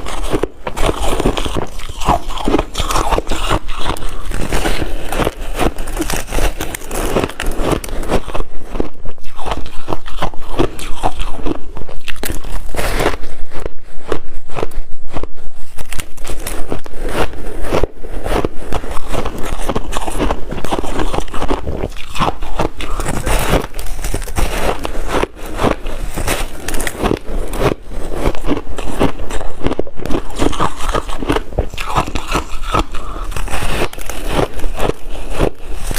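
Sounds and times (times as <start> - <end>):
chewing shaved ice crunches: 0.0 - 35.9.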